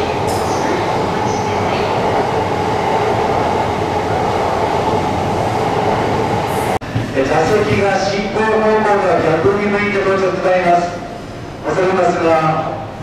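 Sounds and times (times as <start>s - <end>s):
train wheels rumbling on rails: 0.0s - 10.4s.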